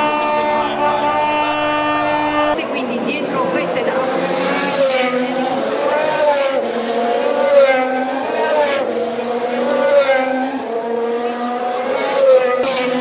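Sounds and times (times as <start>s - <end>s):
race car engines at high revs: 0.0s - 13.0s.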